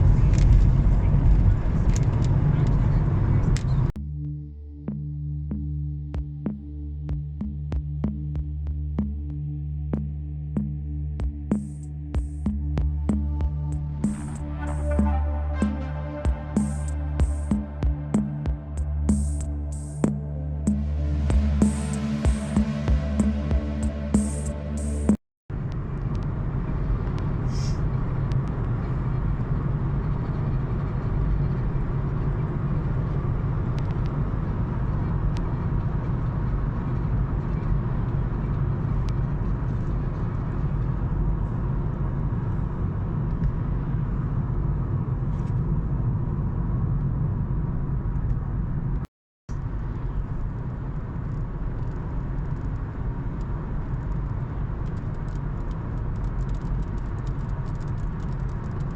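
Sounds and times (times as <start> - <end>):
car road and engine noise: 0.0 - 4.0, 4.6 - 58.9.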